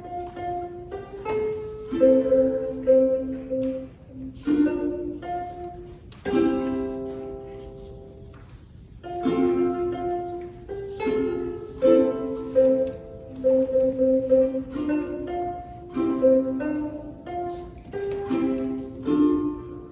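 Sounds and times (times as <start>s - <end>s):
ukulele playing slow chords: 0.0s - 19.9s.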